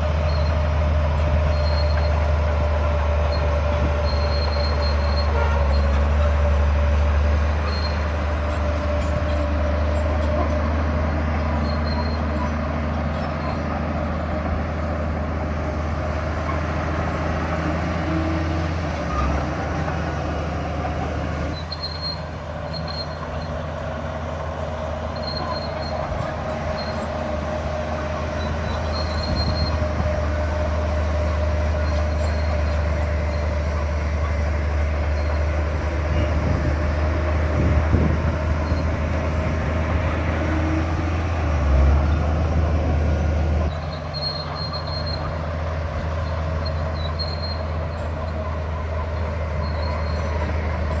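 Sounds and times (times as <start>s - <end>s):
bulldozer diesel engine droning: 0.0s - 51.0s
whine of steel tracks: 0.0s - 51.0s.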